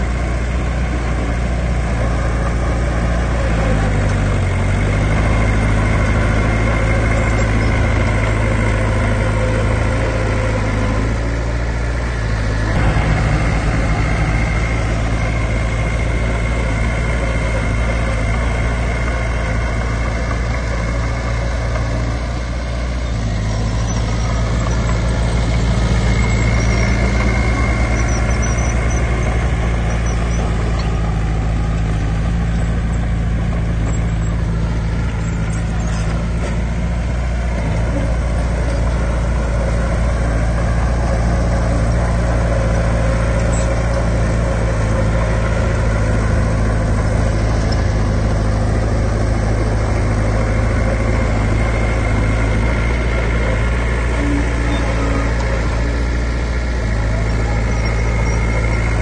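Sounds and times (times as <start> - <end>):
heavy diesel engine drone: 0.0 - 59.0.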